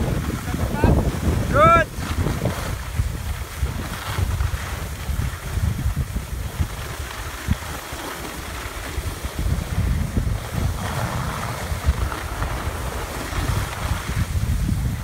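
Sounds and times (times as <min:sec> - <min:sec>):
skis sliding over snow: 0:00.0 - 0:15.0
wind buffeting microphone: 0:00.0 - 0:15.0.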